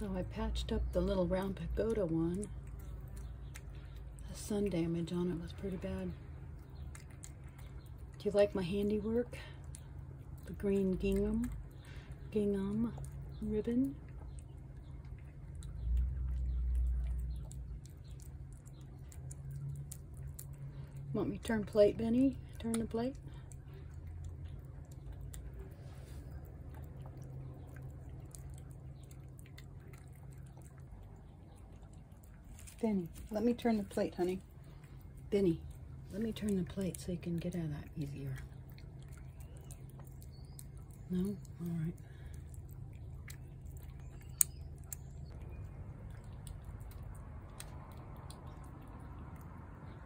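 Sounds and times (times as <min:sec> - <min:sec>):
cat chewing and licking: 0:00.0 - 0:50.0
low background rumble: 0:00.0 - 0:50.0
low hum: 0:00.0 - 0:50.0.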